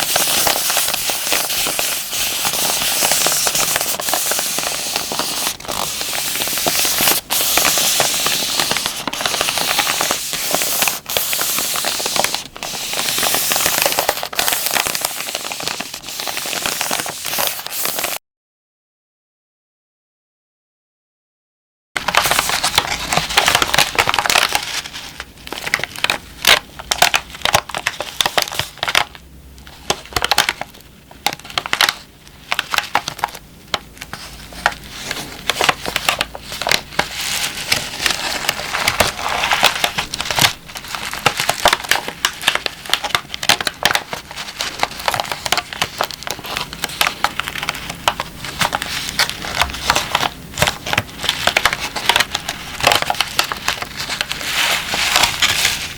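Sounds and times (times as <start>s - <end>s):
plastic pack crinkling: 0.0s - 18.2s, 22.0s - 29.2s, 29.8s - 55.9s.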